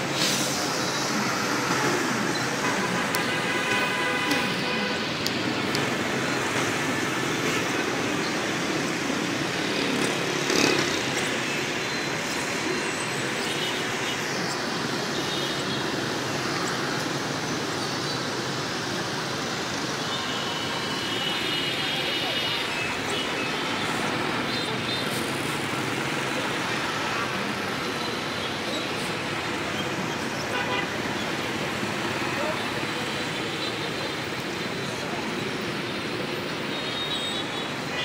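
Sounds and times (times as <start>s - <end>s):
motorbike and bus engines: 0.0s - 38.0s.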